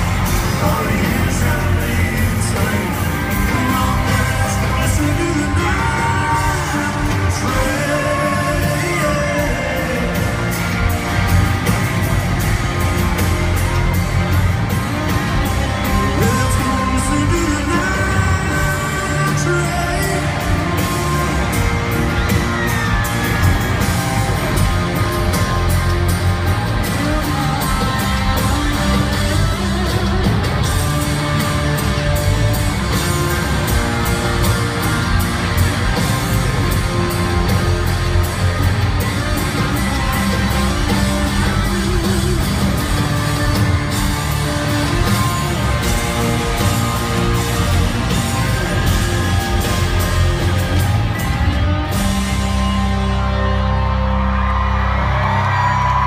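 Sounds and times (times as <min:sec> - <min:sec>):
country-rock band playing live: 0:00.0 - 0:56.0.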